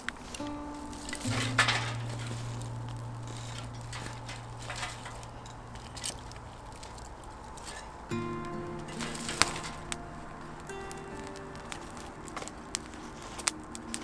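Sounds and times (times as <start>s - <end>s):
short clicks and crackles: 0.0s - 14.0s.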